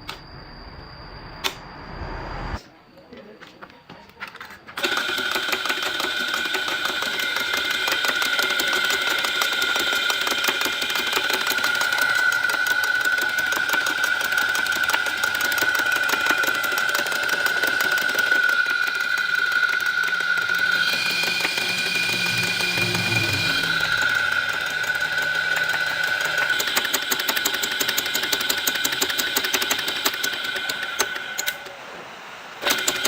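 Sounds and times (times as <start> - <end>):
small motor machine whining and rattling: 4.3 - 33.0.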